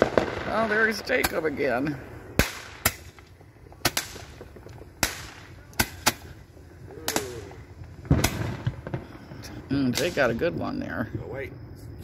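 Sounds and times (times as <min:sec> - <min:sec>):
fireworks bangs: 0:00.0 - 0:11.7.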